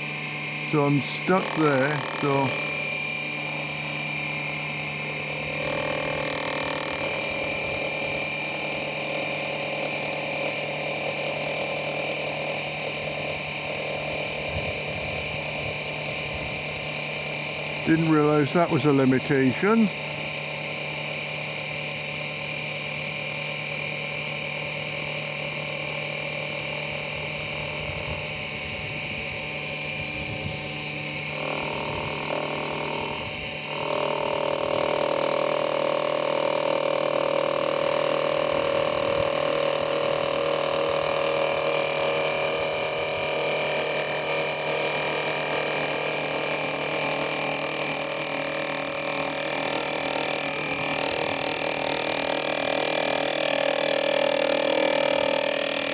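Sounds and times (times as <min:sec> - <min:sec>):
lathe tool cutting wood: 0:00.0 - 0:55.9
small electric motor running: 0:00.0 - 0:55.9.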